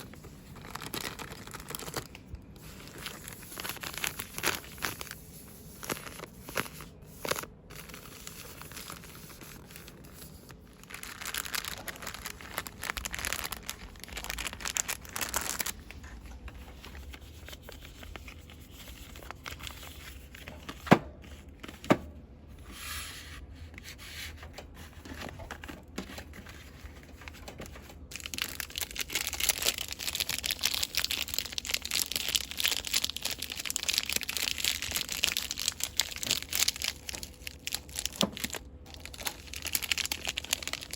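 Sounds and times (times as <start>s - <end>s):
packaging crinkling and rustling: 0.0s - 21.9s, 24.3s - 40.9s.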